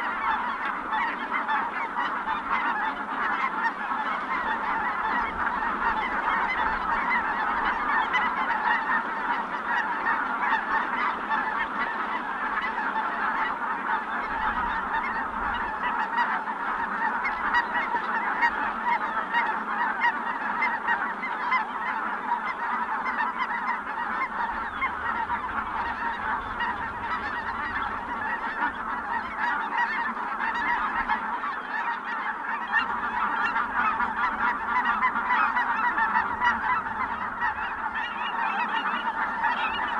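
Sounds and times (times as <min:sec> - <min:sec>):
flock of geese calling: 0:00.0 - 0:39.9.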